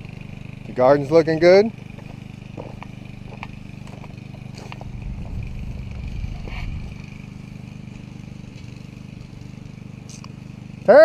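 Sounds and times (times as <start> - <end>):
garden tiller engine running: 0.0 - 11.0.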